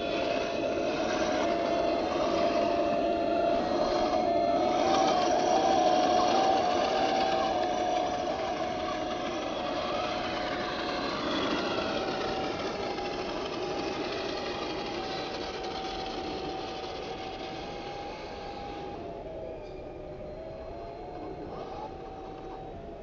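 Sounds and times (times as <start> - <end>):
model tank motor whine: 0.0 - 23.0.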